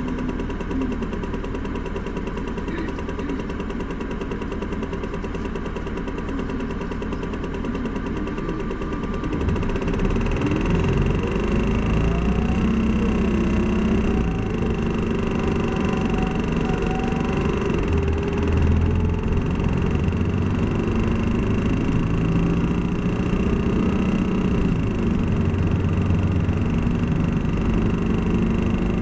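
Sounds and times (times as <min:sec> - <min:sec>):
bus diesel engine idling: 0:00.0 - 0:29.0
bus engine accelerating: 0:00.0 - 0:29.0.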